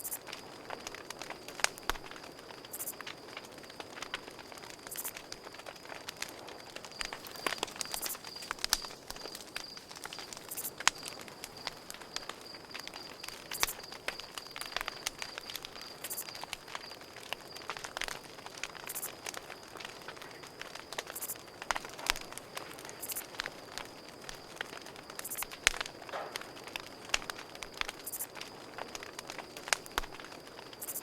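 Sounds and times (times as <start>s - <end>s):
campfire crackling: 0.0s - 31.0s
cricket trilling: 0.0s - 31.0s.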